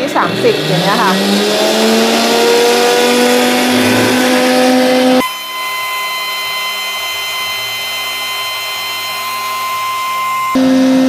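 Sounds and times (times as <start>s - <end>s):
blender motor whining: 0.0s - 11.0s.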